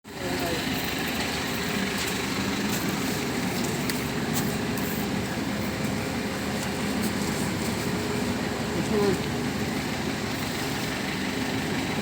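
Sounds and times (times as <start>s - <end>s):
heavy diesel engine running: 0.1s - 12.0s.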